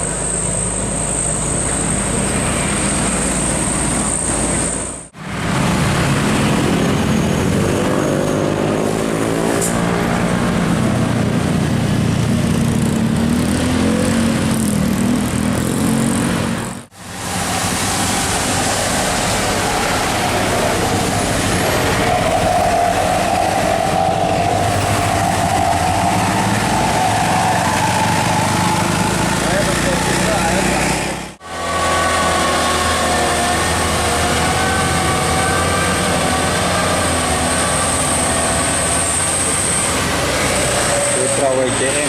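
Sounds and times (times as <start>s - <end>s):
buses driving past: 0.0s - 42.0s.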